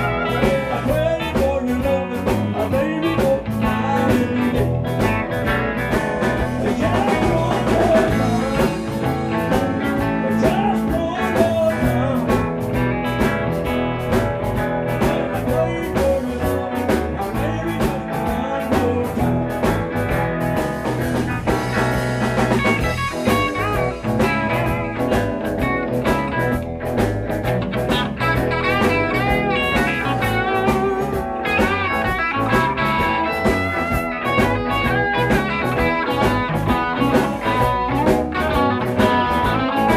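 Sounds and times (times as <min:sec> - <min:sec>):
lead guitar bending notes: 0:00.0 - 0:39.9
live rock band: 0:00.0 - 0:39.9.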